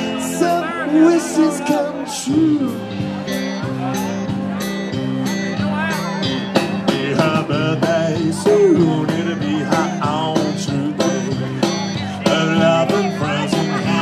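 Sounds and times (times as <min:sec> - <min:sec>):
bass guitar: 0:00.0 - 0:14.0
electric guitars: 0:00.0 - 0:14.0
steady drum beat: 0:02.6 - 0:14.0.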